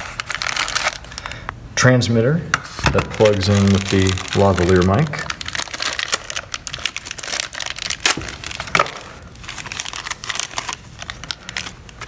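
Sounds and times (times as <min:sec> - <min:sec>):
plastic bag crinkling: 0:00.0 - 0:01.4, 0:02.9 - 0:12.0.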